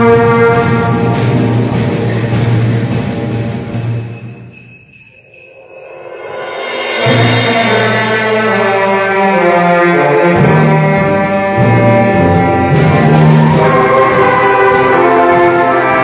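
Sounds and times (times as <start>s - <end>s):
brass and reed band playing: 0.0s - 3.9s, 6.8s - 16.0s.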